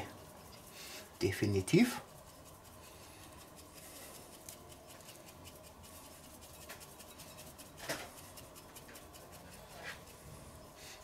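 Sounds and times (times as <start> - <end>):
spice shaker rattling: 0.0 - 10.8
scrape: 0.0 - 11.0.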